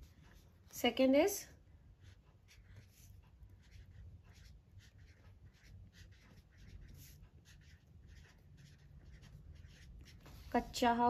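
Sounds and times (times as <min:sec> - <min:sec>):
marker pen scratching paper: 0:01.7 - 0:11.0.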